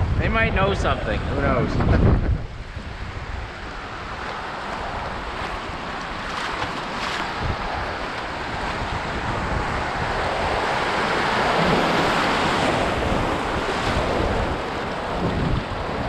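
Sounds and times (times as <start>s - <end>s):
river rapids rushing: 2.6s - 16.0s.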